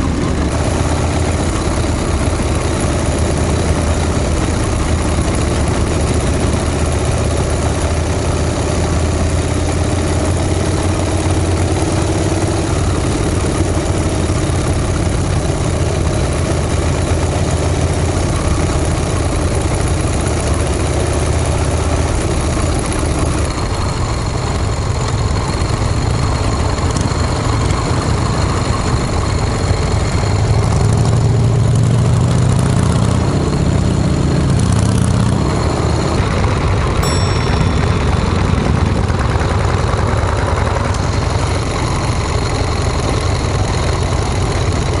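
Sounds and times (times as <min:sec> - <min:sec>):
motorcycle engines running: 0:00.0 - 0:45.0.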